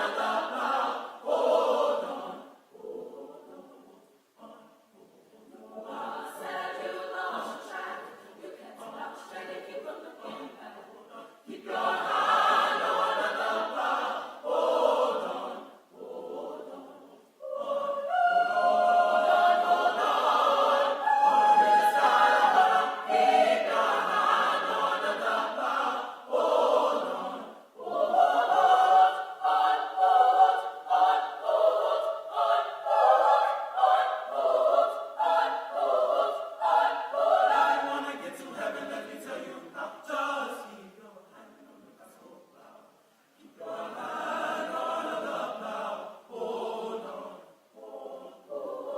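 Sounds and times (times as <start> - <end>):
church choir singing: 0.0 - 48.9.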